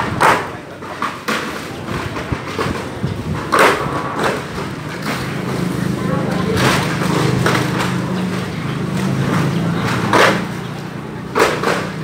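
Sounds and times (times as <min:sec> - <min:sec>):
plastic crates clattering: 0:00.0 - 0:12.0
steady engine hum: 0:00.0 - 0:12.0.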